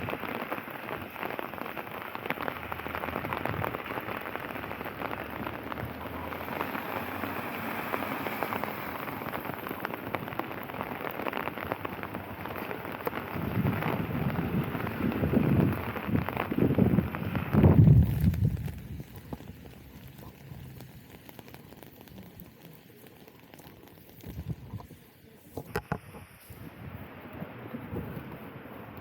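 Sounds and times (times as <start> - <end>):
rain drops striking close: 0.0 - 29.0.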